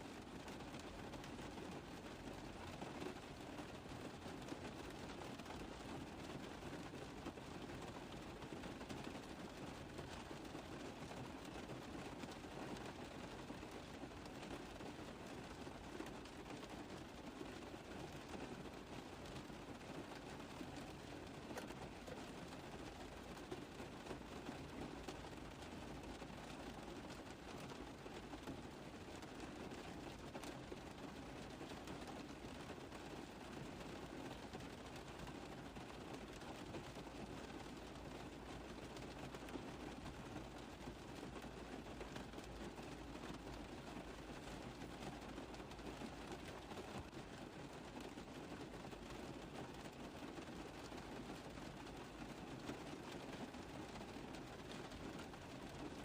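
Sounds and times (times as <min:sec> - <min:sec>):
rain tapping on a car roof: 0:00.0 - 0:56.0.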